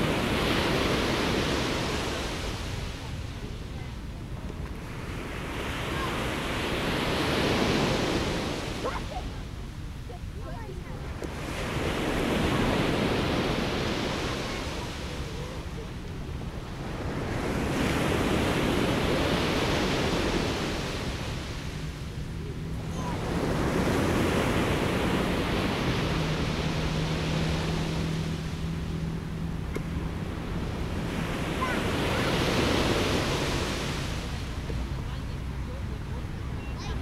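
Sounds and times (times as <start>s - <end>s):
sea waves breaking on a beach: 0.0s - 37.0s.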